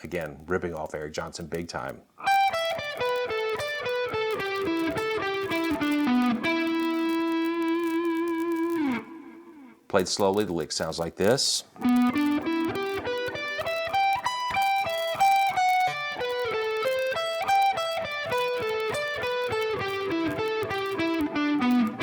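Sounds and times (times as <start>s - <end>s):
clean electric guitar notes: 2.2s - 9.8s, 11.8s - 22.0s.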